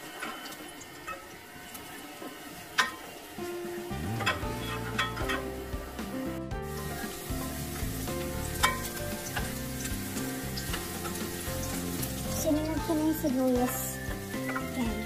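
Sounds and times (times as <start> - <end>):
garlic and onion sizzling in oil: 0.0 - 15.0.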